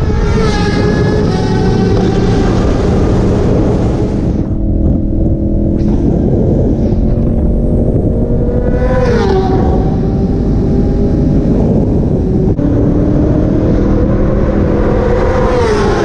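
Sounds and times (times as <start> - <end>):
motorcycle engines running: 0.0 - 16.0
motorcycle passing by: 0.0 - 16.0
wind rumble on microphone: 0.0 - 16.0.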